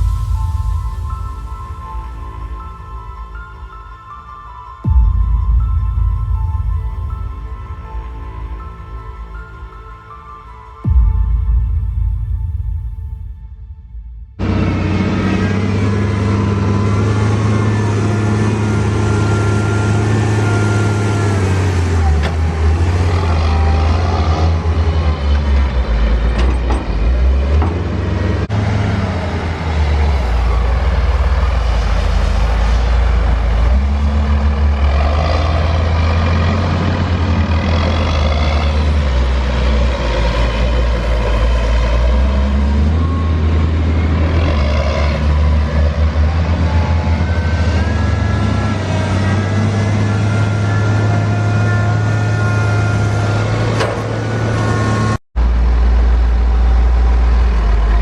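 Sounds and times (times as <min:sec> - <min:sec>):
diesel farm machinery engine: 0:00.0 - 0:58.0.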